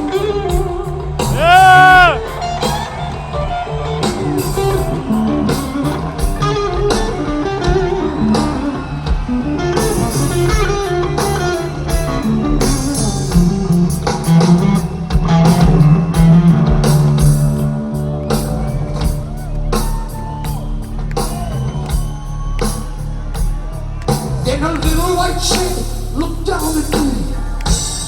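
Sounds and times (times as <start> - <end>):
bass guitar: 0.0 - 28.0
drums: 0.0 - 28.0
electric guitar: 0.0 - 28.0.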